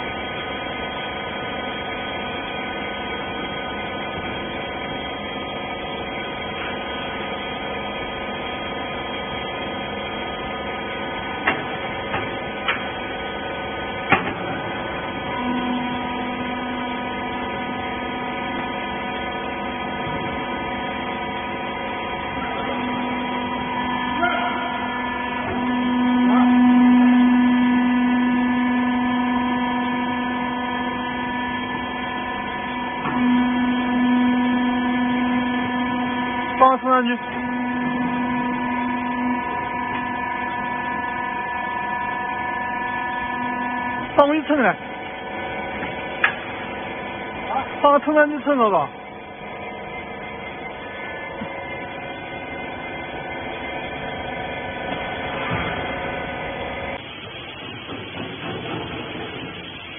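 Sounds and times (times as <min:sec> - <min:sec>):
baler electric hum: 0:00.0 - 0:59.9.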